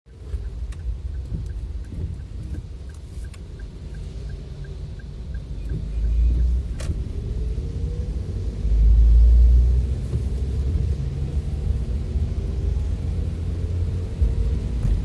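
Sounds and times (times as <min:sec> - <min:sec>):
heavy rain on vehicle: 0:00.1 - 0:15.0
low vehicle rumble: 0:00.1 - 0:15.0.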